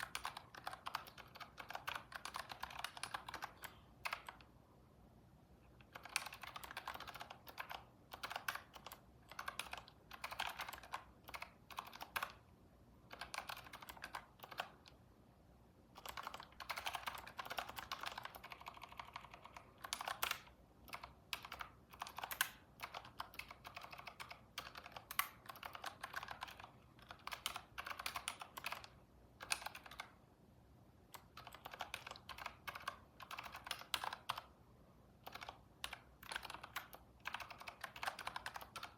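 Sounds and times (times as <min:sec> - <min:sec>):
computer keyboard typing: 0:00.0 - 0:04.5, 0:05.8 - 0:15.0, 0:15.9 - 0:30.2, 0:31.1 - 0:34.6, 0:35.2 - 0:38.9.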